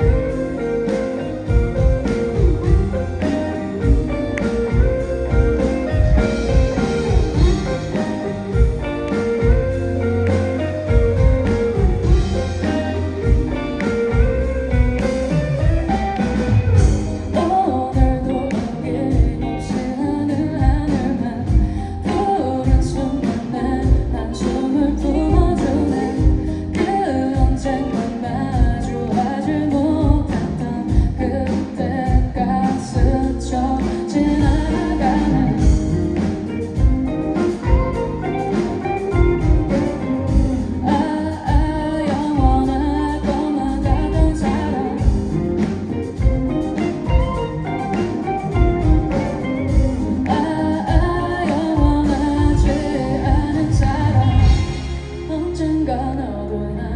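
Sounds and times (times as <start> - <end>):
woman singing: 0.0 - 15.4, 16.8 - 56.9
drum kit beat: 0.0 - 55.3
electric guitar: 0.0 - 56.9.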